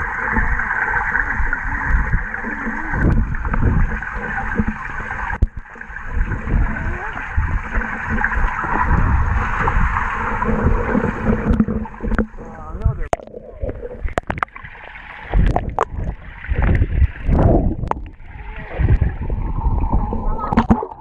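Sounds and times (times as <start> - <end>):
low water thumps: 0.0 - 21.0
muffled water sloshing: 0.0 - 21.0.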